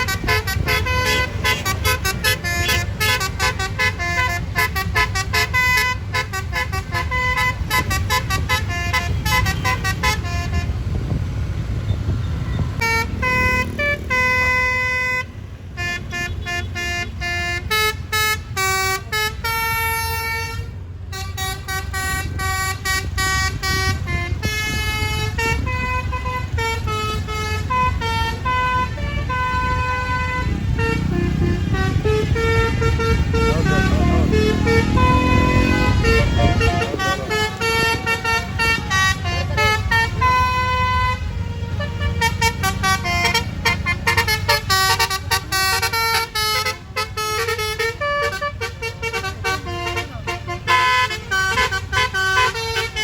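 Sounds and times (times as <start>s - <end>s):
bus air horn playing a tune: 0.0s - 11.2s, 12.4s - 53.0s
low engine rumble: 0.0s - 53.0s.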